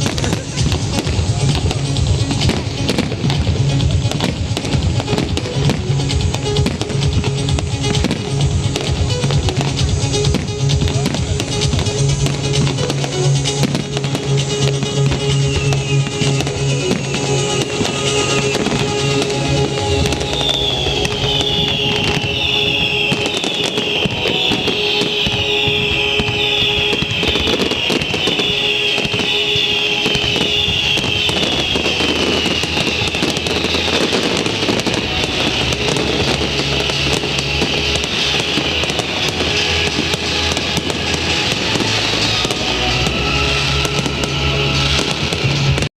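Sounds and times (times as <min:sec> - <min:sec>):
fireworks crackling and bangs: 0:00.0 - 0:45.9
music: 0:00.0 - 0:45.9
falling firework whistles: 0:07.9 - 0:45.9.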